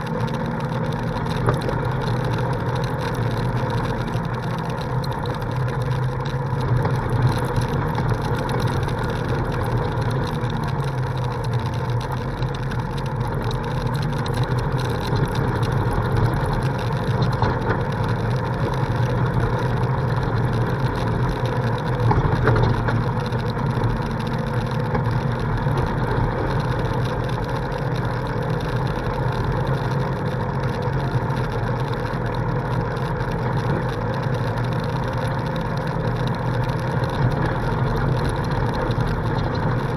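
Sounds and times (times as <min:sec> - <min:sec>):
off-road vehicle engine humming: 0:00.0 - 0:39.9
rattle and rumble of ride: 0:00.0 - 0:39.9.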